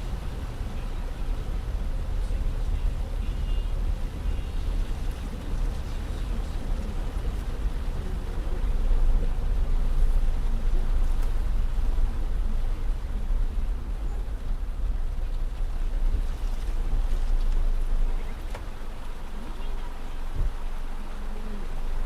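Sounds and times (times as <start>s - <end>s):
car driving through flooded road: 0.0s - 22.0s.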